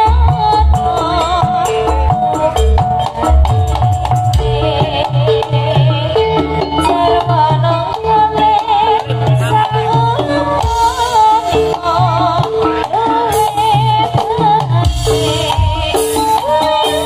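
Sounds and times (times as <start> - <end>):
drums beating: 0.0 - 17.0
rattling percussion: 0.0 - 17.0.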